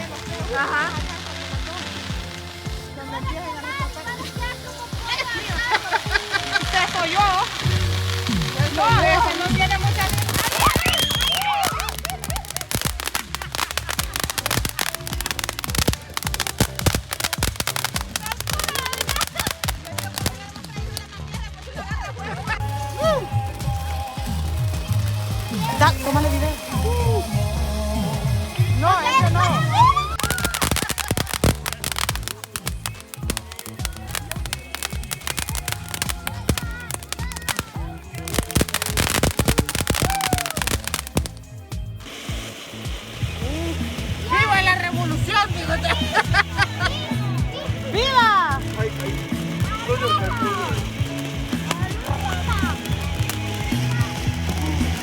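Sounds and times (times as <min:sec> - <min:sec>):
background music with bass: 0:00.0 - 0:55.0
fireworks crackling and popping: 0:00.0 - 0:55.0.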